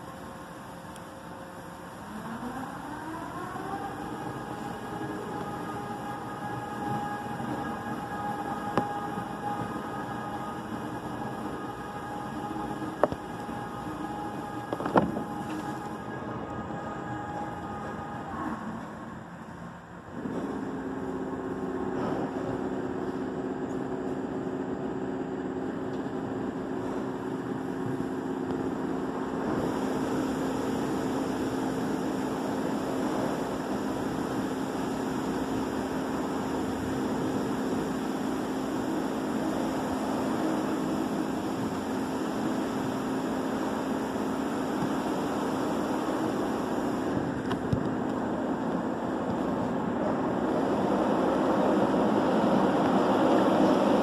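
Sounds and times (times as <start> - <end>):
car wash motor whine: 0.0 - 54.0.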